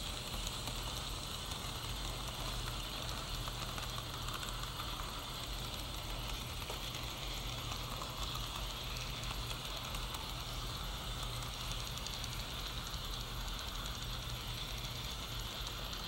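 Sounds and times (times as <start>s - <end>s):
model train whirring and rattling: 0.0s - 16.0s.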